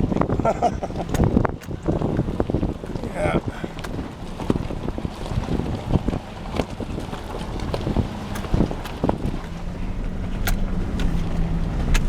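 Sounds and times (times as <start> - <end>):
vehicle rumbling on gravel road: 0.0 - 12.0.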